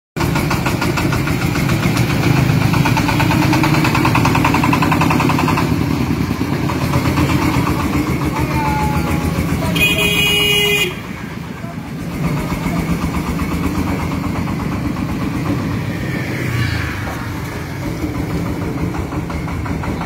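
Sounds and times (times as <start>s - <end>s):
diesel engine chugging: 0.2s - 20.0s.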